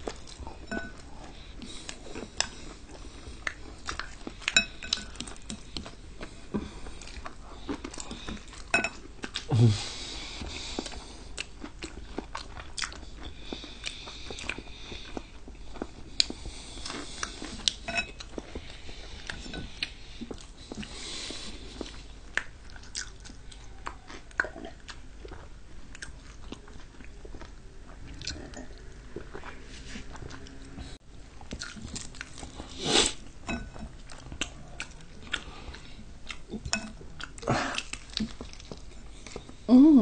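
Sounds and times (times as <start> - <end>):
chewing with crisp crunches: 0.0 - 39.7.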